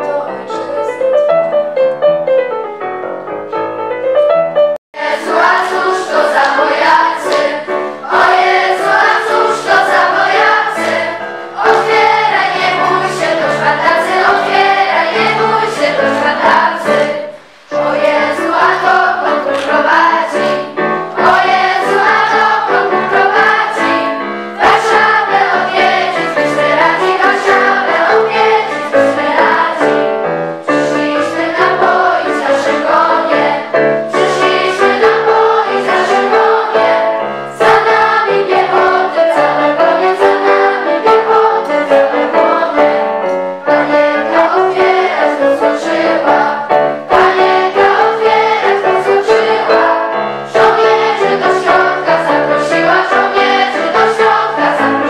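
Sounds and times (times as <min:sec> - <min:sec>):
choir singing: 0:05.0 - 0:55.0.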